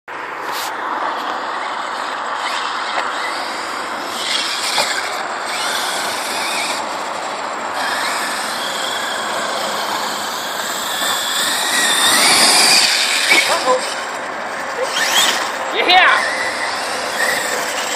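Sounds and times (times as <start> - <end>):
tyres scrabbling in loose dirt: 0.4 - 17.9
rc truck motor whining: 1.2 - 17.9.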